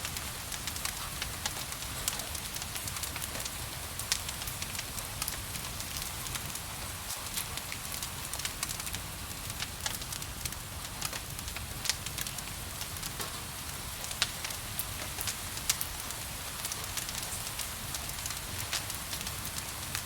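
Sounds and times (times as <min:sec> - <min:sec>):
gentle rain hissing: 0:00.0 - 0:20.0
wood fire crackling and popping: 0:00.0 - 0:20.0.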